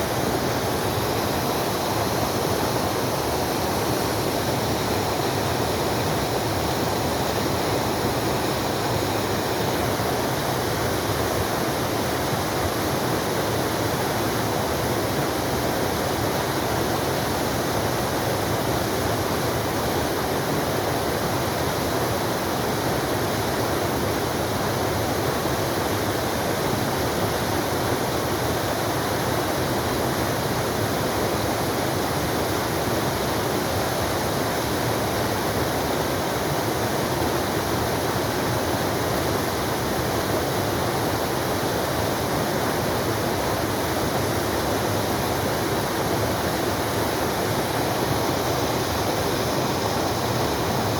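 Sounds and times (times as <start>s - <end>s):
waterfall rushing and splashing: 0.0s - 50.9s.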